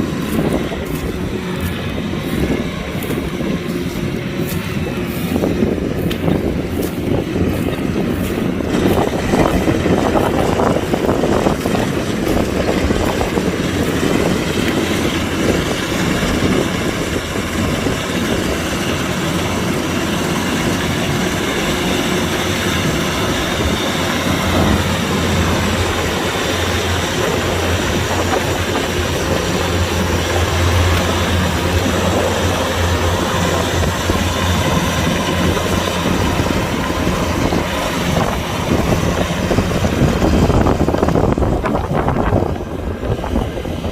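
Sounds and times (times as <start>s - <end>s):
combine harvester engine drone: 0.0s - 43.9s.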